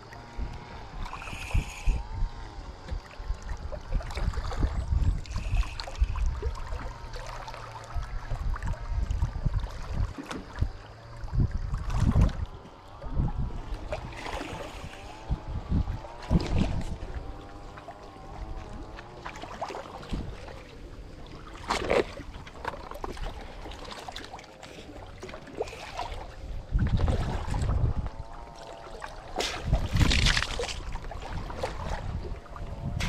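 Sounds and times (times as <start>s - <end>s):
engine-like drone: 0.0s - 33.0s
wind rumbling on microphone: 0.0s - 33.0s.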